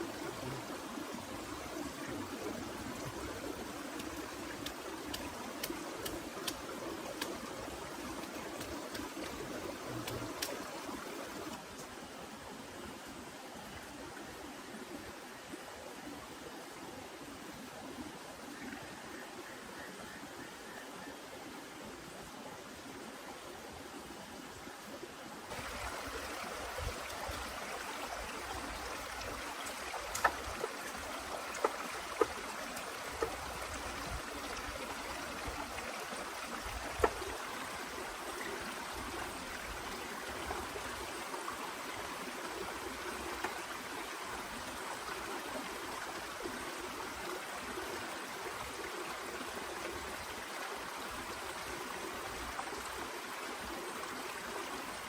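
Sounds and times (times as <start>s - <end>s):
running water: 0.0s - 18.5s, 21.7s - 55.0s.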